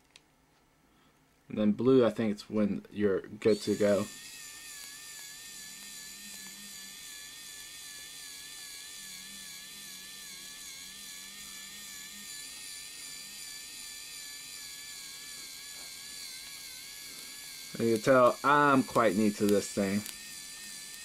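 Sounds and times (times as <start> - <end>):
pen motor whining: 3.4 - 21.0.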